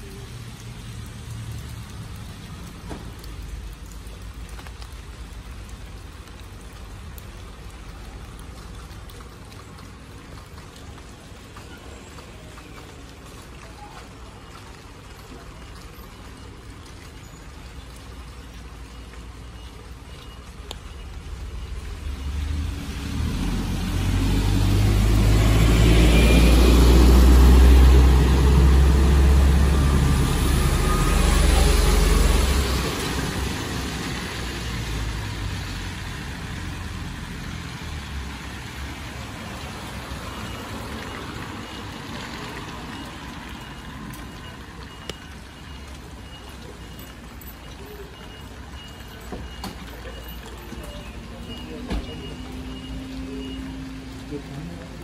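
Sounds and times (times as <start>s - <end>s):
tyres hissing on wet asphalt: 0.0s - 55.0s
minibus engine rumble: 5.8s - 55.0s.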